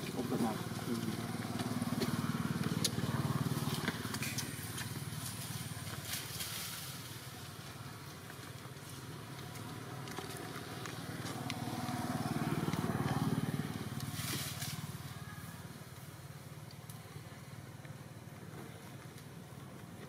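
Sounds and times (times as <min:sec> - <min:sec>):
vehicle engine hum passing: 0:00.0 - 0:20.0.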